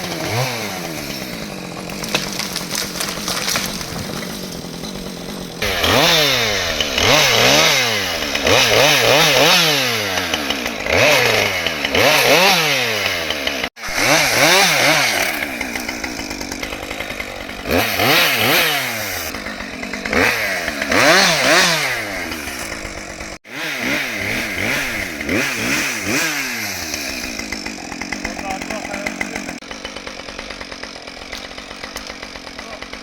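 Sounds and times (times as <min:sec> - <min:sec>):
chainsaw revving while cutting wood: 0:00.0 - 0:33.0.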